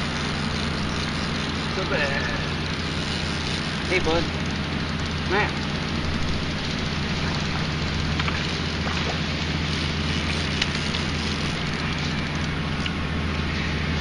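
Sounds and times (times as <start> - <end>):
low steady hum: 0.0 - 14.0
rushing outdoor noise: 0.0 - 14.0.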